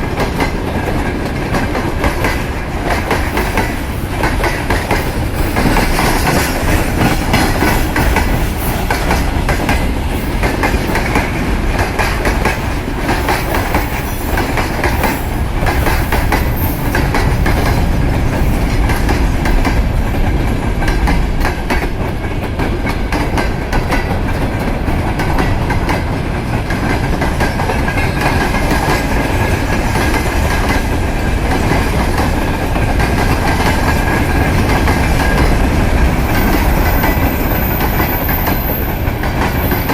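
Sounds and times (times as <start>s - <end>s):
freight train rumble: 0.0s - 39.9s
train wheels clicking over rail joints: 0.0s - 39.9s.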